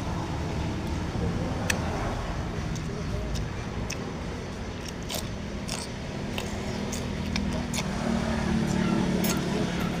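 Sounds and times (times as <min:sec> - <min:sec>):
engine hum: 0:00.0 - 0:10.0.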